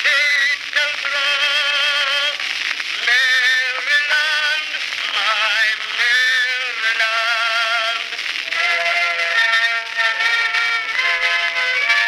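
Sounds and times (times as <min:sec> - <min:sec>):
phonograph singer with vibrato: 0:00.0 - 0:12.0.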